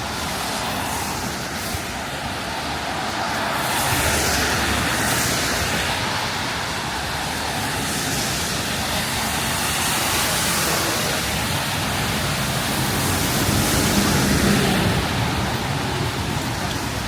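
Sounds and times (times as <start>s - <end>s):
rain hissing on street: 0.0s - 17.0s
vehicle rumble: 0.0s - 17.0s.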